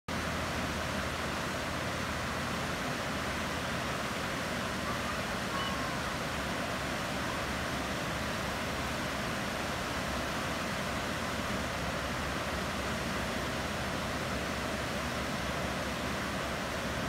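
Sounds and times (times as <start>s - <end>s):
waterfall rushing over rocks: 0.1s - 17.0s.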